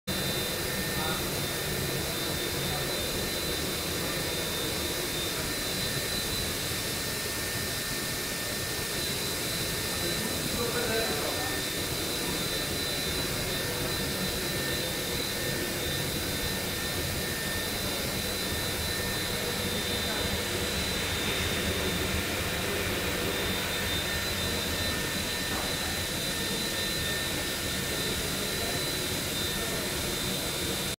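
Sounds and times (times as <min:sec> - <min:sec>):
high-pitched whine: 0:00.1 - 0:30.9
steady mechanical noise: 0:00.1 - 0:30.9.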